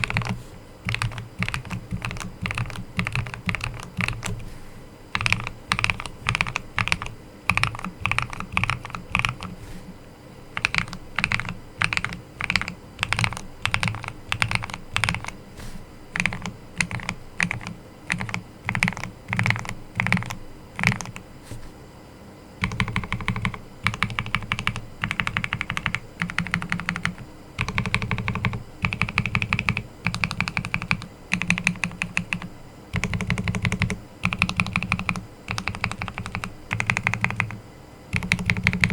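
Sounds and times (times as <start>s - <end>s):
typing on mechanical keyboard: 0.0s - 4.4s, 5.1s - 9.6s, 10.6s - 15.4s, 16.2s - 21.2s, 22.6s - 38.9s.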